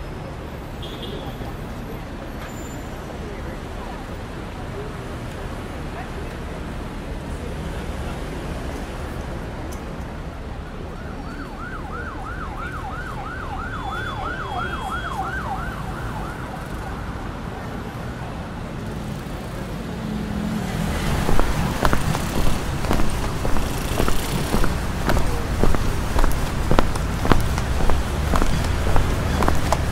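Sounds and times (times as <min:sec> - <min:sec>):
street traffic: 0:00.0 - 0:29.9.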